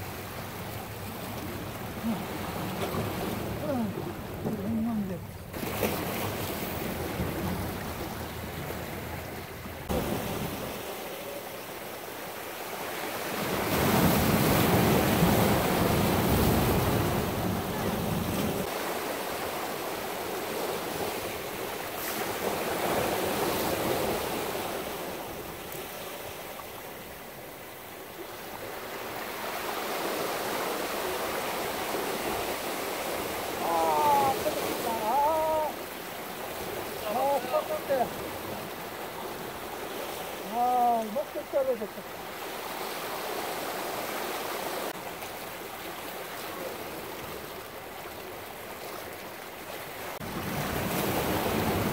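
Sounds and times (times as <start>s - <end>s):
surf washing over rocks: 0.0s - 51.9s.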